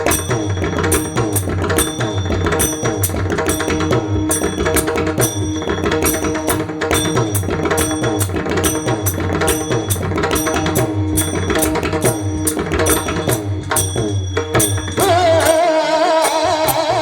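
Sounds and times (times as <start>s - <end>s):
hand drum beat: 0.0s - 17.0s
held melodic notes: 0.0s - 17.0s
small hand cymbals: 0.0s - 17.0s.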